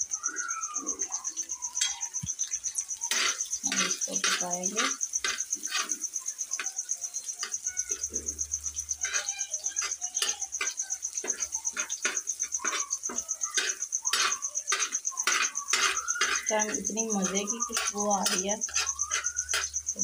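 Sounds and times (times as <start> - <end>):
metal spatula scraping griddle: 3.0 - 20.0.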